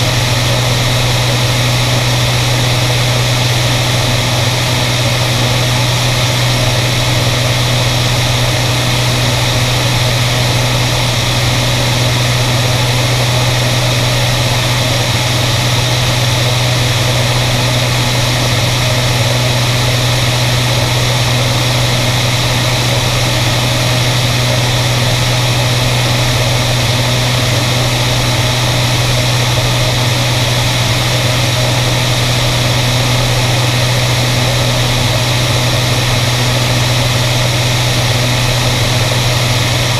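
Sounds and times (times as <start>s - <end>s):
aircraft engines droning: 0.0s - 39.9s.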